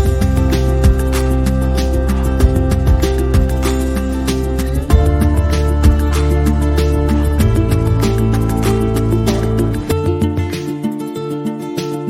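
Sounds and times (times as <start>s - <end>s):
background music with plucked guitar: 0.0s - 12.0s.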